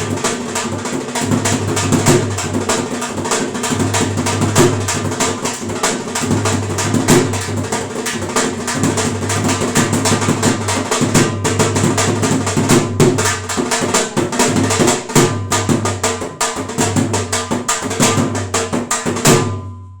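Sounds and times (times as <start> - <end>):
dhol drum fast rhythm: 0.0 - 20.0.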